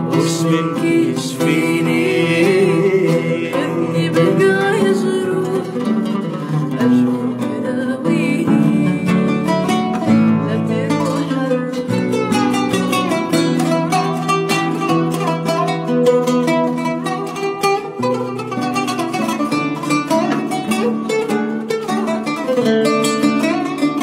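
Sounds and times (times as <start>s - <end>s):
acoustic guitar playing: 0.0s - 24.0s
oud playing: 0.0s - 24.0s.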